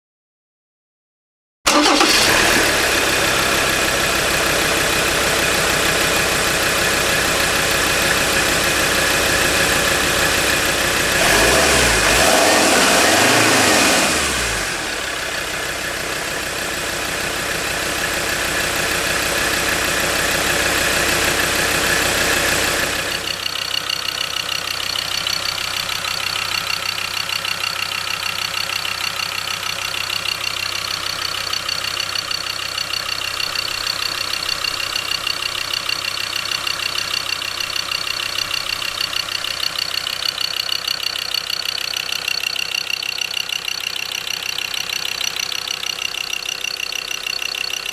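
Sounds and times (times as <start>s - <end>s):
diesel engine revving and idling: 1.7s - 47.9s.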